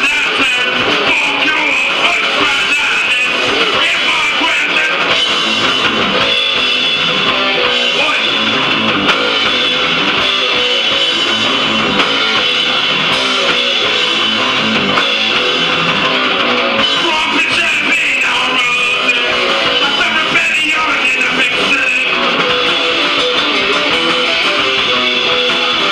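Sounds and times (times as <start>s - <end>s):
drum kit: 0.0s - 25.9s
electric guitar: 0.0s - 25.9s
hardcore punk song: 0.0s - 25.9s.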